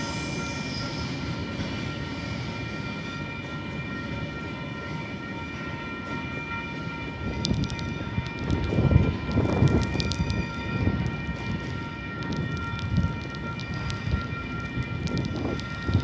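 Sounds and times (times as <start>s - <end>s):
freight train rumbling: 0.0s - 16.0s
steady high ringing tones: 0.0s - 16.0s.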